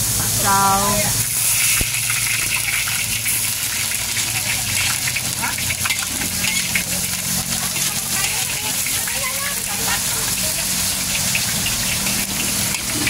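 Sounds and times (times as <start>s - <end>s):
leaves sizzling in a wok: 0.0s - 13.0s
metal spatula scraping a pan: 1.3s - 13.0s.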